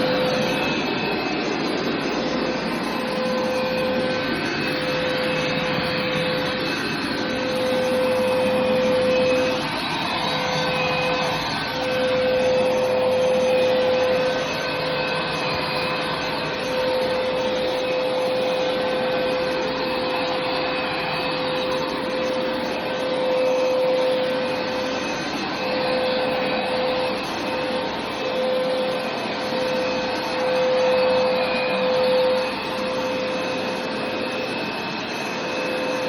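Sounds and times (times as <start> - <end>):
carpet cleaner running: 0.0 - 36.0.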